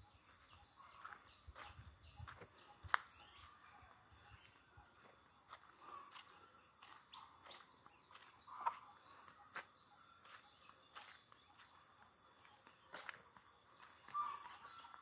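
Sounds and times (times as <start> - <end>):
footsteps on dirt path: 0.0 - 15.0
small birds chirping: 0.0 - 15.0.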